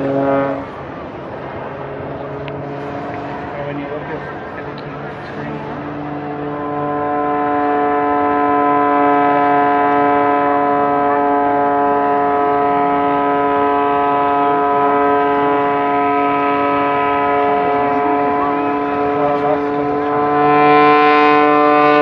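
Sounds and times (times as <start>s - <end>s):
loud steady hum: 0.0s - 22.0s.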